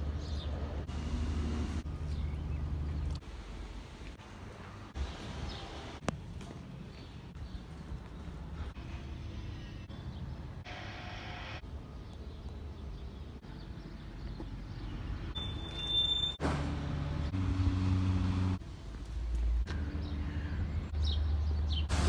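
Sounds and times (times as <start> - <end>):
engine hum: 0.0 - 10.7, 12.5 - 22.0.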